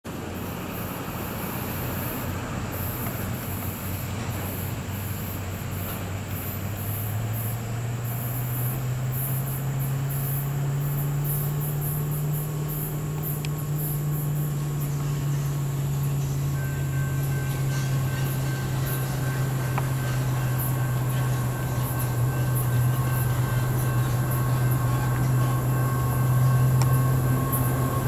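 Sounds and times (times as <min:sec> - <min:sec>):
diesel locomotive engine droning: 0:00.0 - 0:28.0
high pulsing buzz: 0:00.1 - 0:28.0.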